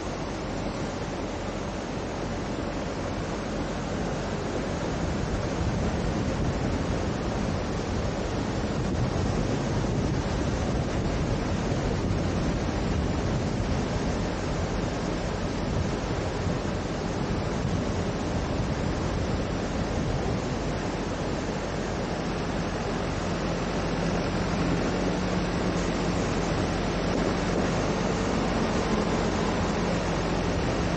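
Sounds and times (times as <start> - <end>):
floodwater rushing: 0.0 - 30.9
wind buffeting microphone: 0.0 - 30.9.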